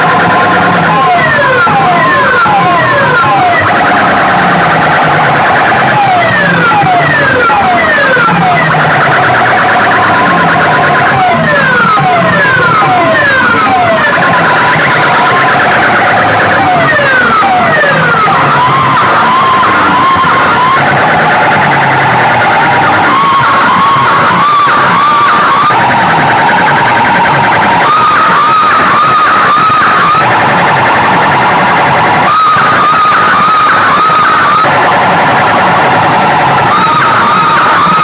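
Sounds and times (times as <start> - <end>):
warbling tone: 0.0 - 38.0.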